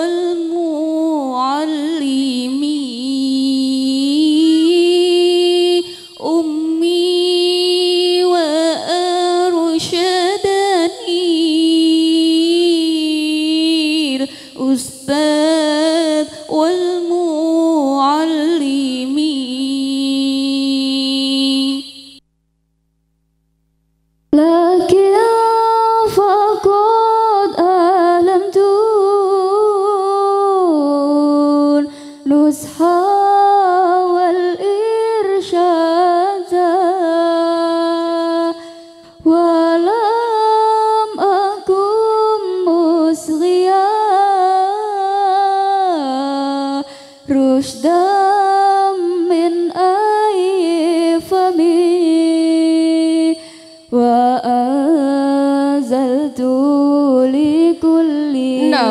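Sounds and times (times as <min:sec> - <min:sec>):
woman singing unaccompanied: 0:00.0 - 0:22.2, 0:24.3 - 0:58.9.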